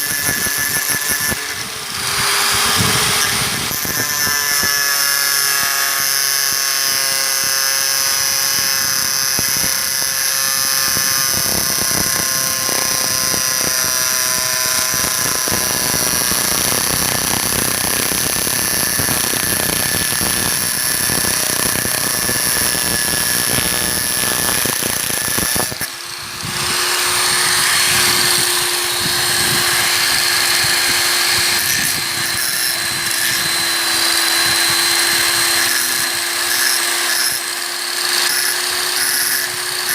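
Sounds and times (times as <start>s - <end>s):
angle grinder motor whine: 0.0s - 39.9s.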